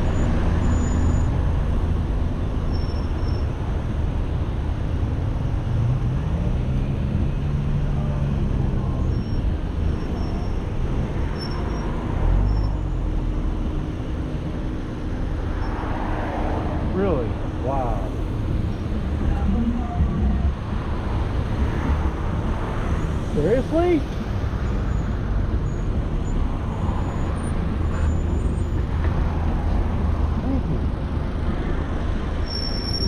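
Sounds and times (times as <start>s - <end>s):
road traffic rumble: 0.0s - 33.0s
passing vehicle engine: 3.4s - 32.4s.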